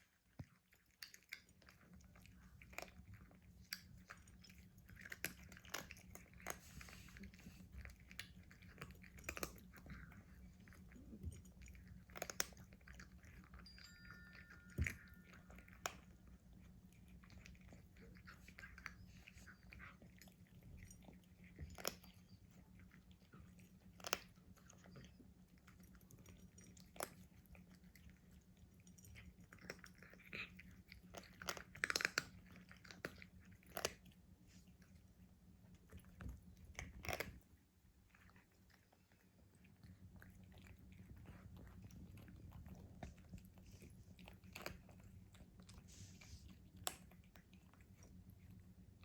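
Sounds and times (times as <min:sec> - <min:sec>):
cat chewing food: 0:00.0 - 0:49.0
low steady hum: 0:00.0 - 0:49.0.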